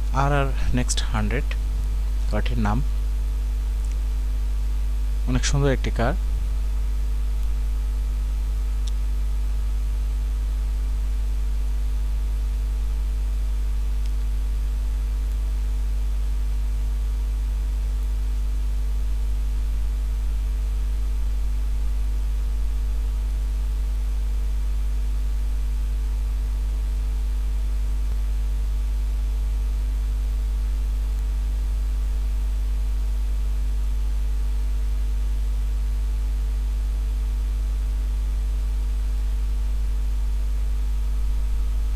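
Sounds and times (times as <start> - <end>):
electrical mains hum: 0.0 - 41.9.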